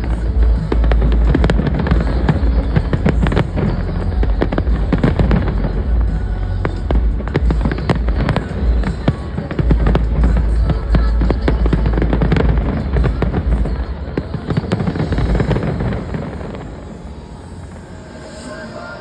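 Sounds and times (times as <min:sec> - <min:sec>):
deep fireworks booms: 0:00.0 - 0:17.9
fireworks bangs and crackles: 0:00.0 - 0:19.0.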